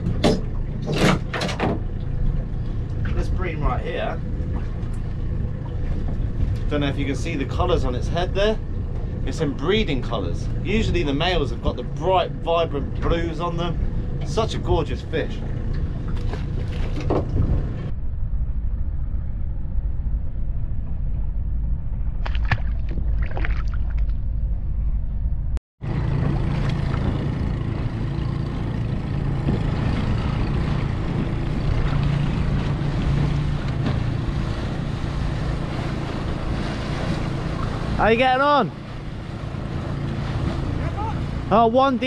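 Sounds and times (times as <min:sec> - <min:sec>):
wind rumble on microphone: 0:00.0 - 0:41.6.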